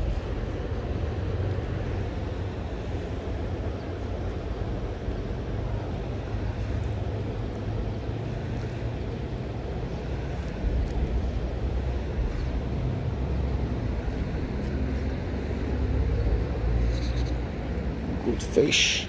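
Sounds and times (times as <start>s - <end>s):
wind rumble on microphone: 0.0s - 18.2s.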